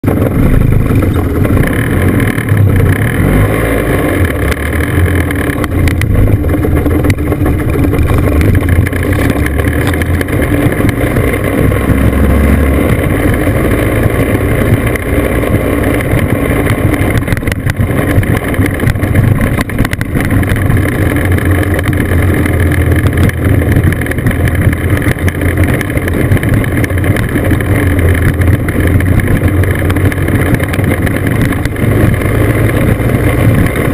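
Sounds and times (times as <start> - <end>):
scooter engine running: 0.0 - 33.9.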